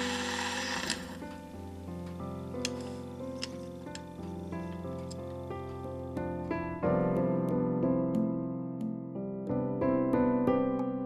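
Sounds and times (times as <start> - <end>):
keyboard tune over chords: 0.0 - 11.0.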